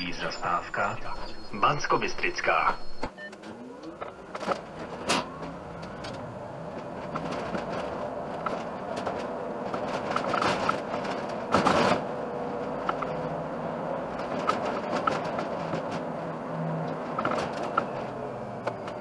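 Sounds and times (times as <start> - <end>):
bus engine and road noise: 0.0 - 19.0
rattles and clicks: 3.4 - 19.0.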